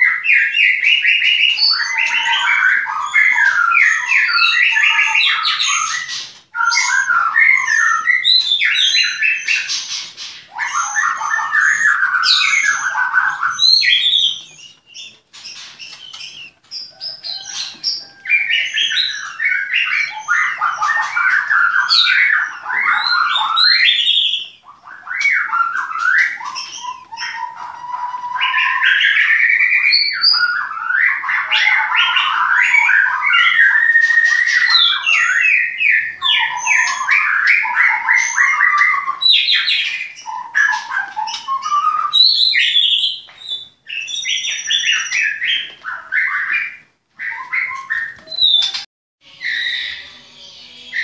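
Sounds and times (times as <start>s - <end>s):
bird song whistles and trills: 0.0s - 51.0s.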